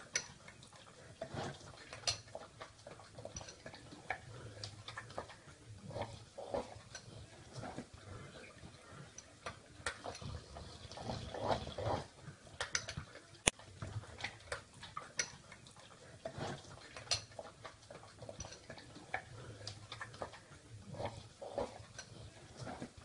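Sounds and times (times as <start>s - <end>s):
dog eating from spoon: 0.0s - 23.0s.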